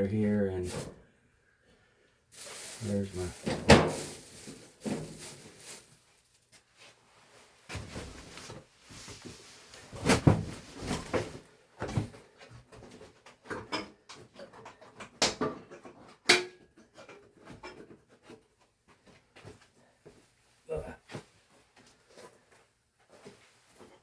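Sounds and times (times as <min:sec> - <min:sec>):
rustling and scraping on ductwork: 0:00.0 - 0:01.1, 0:02.3 - 0:24.0.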